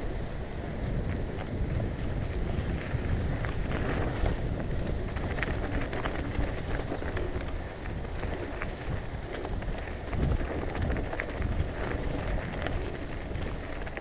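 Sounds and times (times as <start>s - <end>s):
bike rattling: 0.0s - 14.0s
wind rumble on microphone: 0.0s - 14.0s
tyres crunching over gravel: 0.9s - 14.0s.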